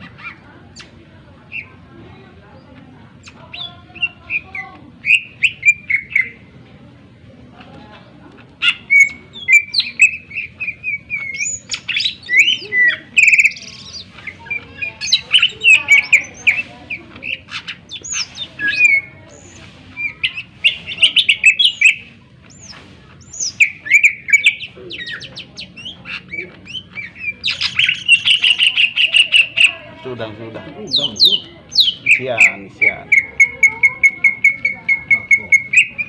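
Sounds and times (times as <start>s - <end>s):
bird singing chirps and trills: 2.5s - 6.5s, 8.6s - 36.0s.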